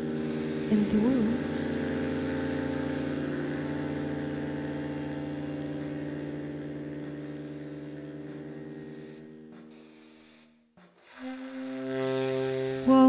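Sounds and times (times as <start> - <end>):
fluttering electronic drone chord: 0.0 - 13.0.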